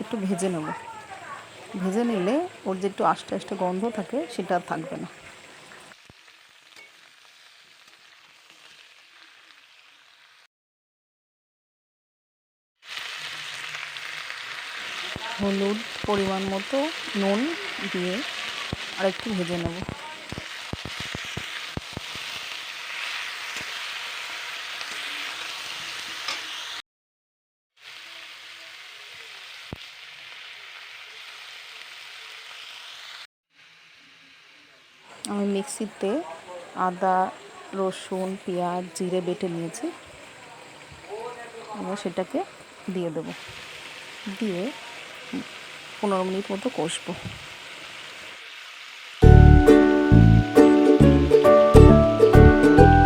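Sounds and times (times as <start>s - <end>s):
chicken frying in hot oil: 0.0s - 10.5s, 12.8s - 26.8s, 27.8s - 52.8s.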